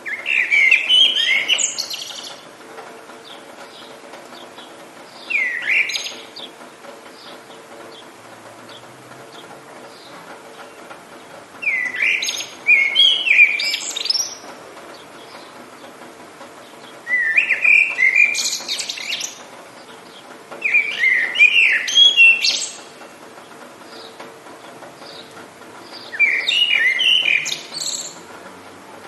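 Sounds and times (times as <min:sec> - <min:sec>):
faint hiss of rain: 0:00.0 - 0:29.0
songbird chirping: 0:00.0 - 0:29.0.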